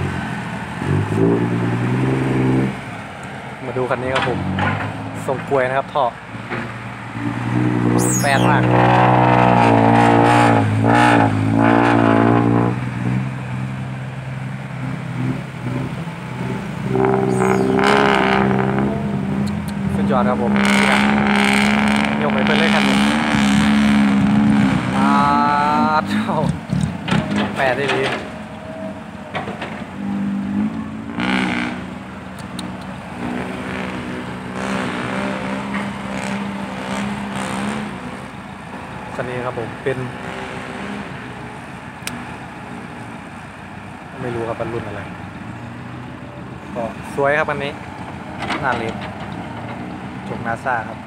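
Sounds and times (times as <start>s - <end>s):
diesel truck engine working hard: 0.0s - 51.0s.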